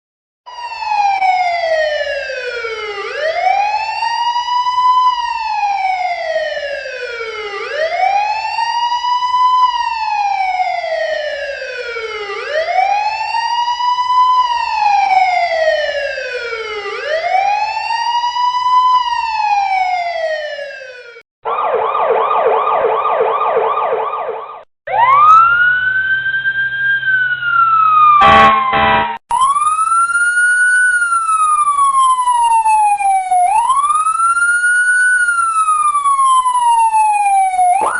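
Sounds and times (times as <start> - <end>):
police car siren wailing: 0.5 - 37.9.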